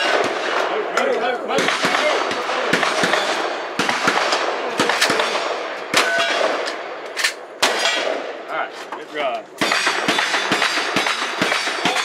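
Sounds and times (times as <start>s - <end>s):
gunshots: 0.0s - 8.5s, 9.6s - 12.0s.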